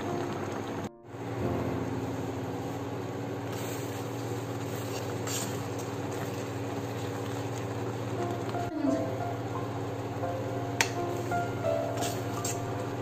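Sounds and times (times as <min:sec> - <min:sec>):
induction cooktop humming: 0:00.0 - 0:13.0.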